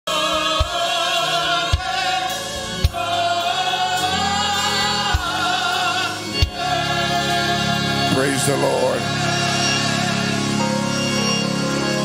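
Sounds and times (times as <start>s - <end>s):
choir singing gospel: 0.1s - 12.0s.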